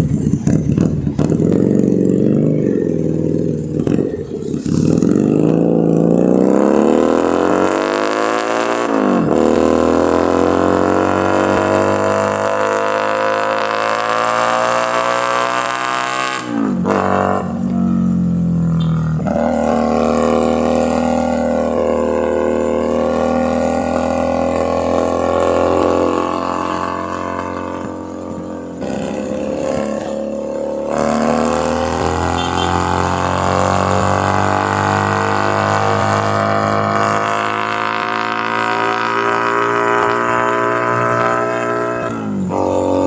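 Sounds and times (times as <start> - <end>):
motorcycle engine and exhaust: 0.0 - 43.0.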